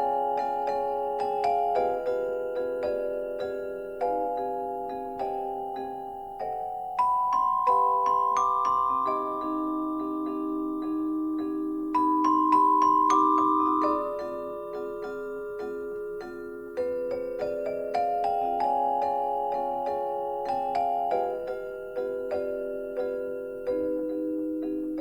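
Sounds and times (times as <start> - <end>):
mallet percussion over sustained chords: 0.0 - 25.0.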